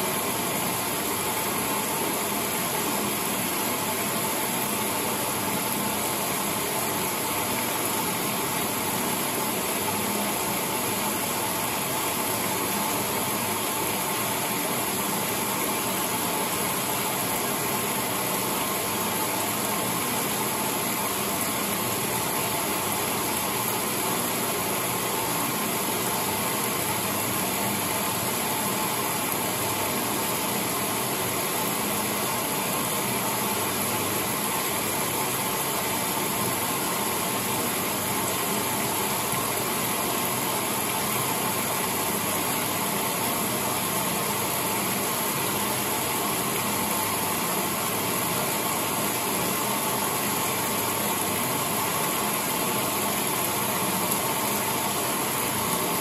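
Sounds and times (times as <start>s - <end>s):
washing machine whirring: 0.0s - 56.0s.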